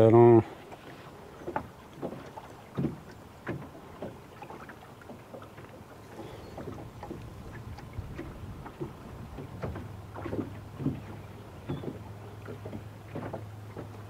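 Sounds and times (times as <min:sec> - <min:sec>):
waves slapping boat hull: 0:00.0 - 0:14.0.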